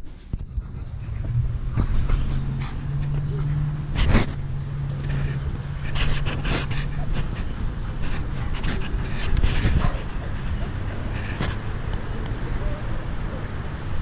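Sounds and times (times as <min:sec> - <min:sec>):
dogs panting: 0:00.2 - 0:13.5.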